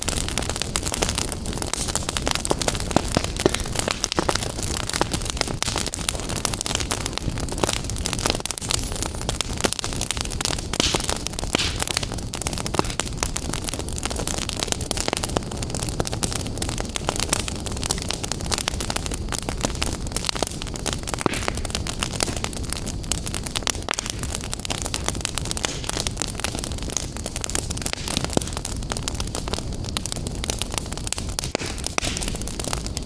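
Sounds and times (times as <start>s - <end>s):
fire hissing: 0.0s - 33.0s
wood fire crackling and popping: 0.0s - 33.0s.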